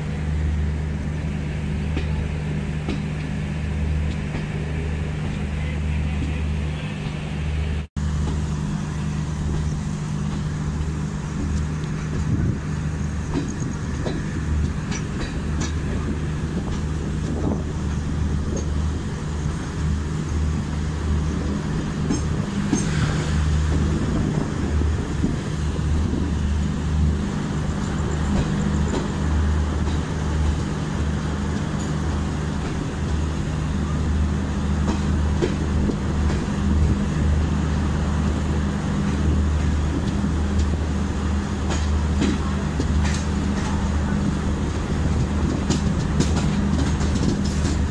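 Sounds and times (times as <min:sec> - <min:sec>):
train hum and wheel rumble: 0:00.0 - 0:47.9.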